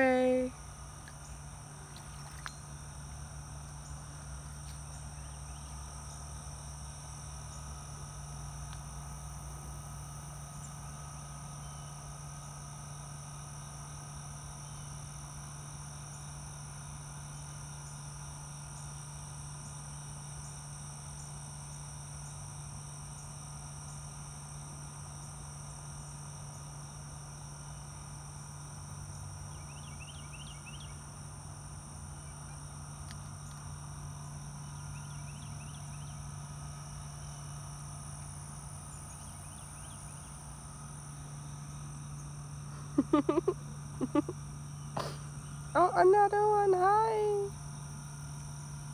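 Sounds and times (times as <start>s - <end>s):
high-pitched insect drone: 0.0s - 48.9s
low steady hum: 0.0s - 48.9s.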